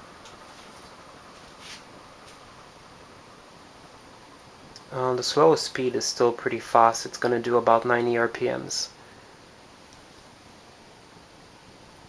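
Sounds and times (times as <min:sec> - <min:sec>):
ceiling fan hiss: 0:00.0 - 0:12.0.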